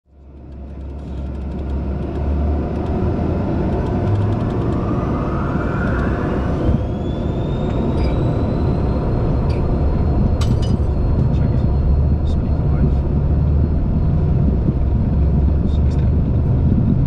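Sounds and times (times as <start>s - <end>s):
aircraft engine running: 0.1s - 17.0s
thin rising whine: 0.2s - 17.0s.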